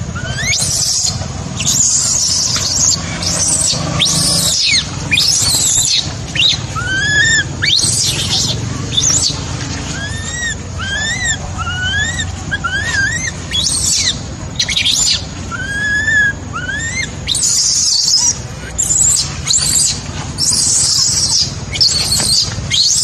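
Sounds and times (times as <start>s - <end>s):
infant monkey crying: 0.0s - 23.0s.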